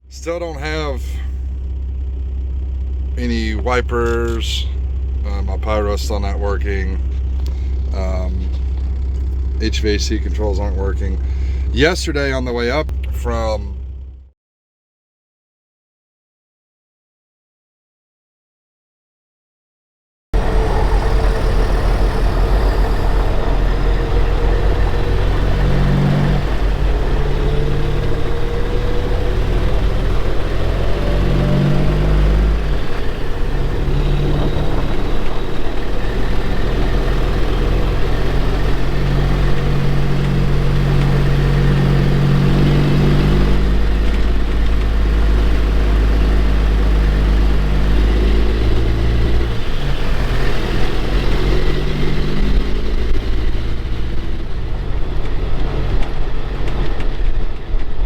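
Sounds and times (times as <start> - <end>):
truck diesel engine shifting gears: 0.1 - 14.3, 20.4 - 58.0.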